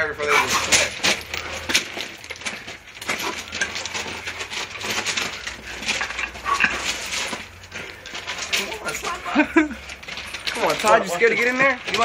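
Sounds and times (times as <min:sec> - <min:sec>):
footsteps crunching on gravel: 0:00.0 - 0:12.0.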